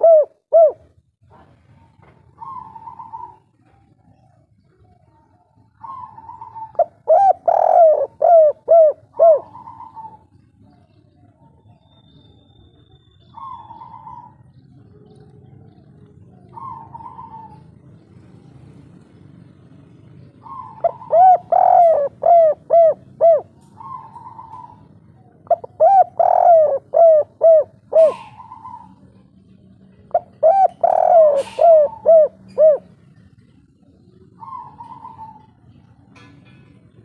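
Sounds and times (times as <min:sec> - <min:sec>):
dove cooing: 0:00.0 - 0:36.3.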